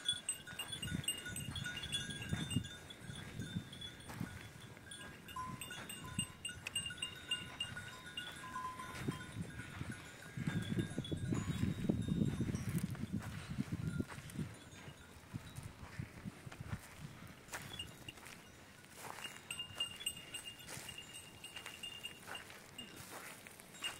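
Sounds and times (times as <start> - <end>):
hooves scuffling: 0.0 - 23.9
livestock bells ringing: 0.0 - 23.9.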